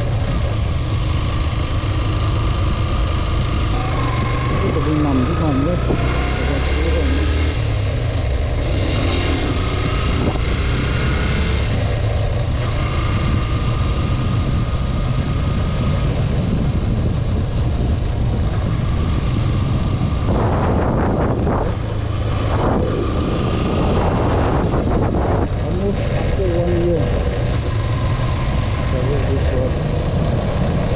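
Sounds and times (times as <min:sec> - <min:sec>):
motorcycle engine running: 0:00.0 - 0:30.9
wind on microphone: 0:03.6 - 0:30.9.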